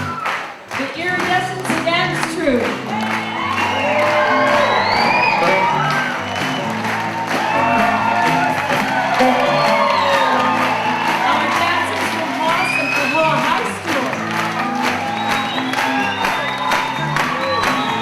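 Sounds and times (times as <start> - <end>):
crowd cheering and whooping: 0.0 - 0.6, 2.0 - 18.0
live music: 0.0 - 18.0.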